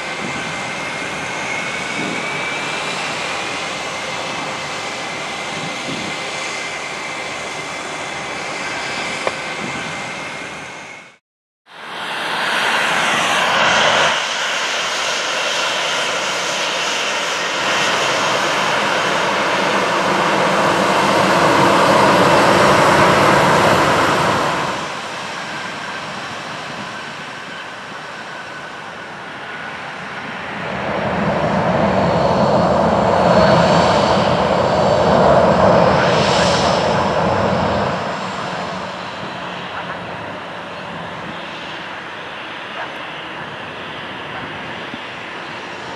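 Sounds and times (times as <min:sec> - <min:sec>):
jet engines rumbling: 0:00.0 - 0:11.2, 0:11.8 - 0:45.9.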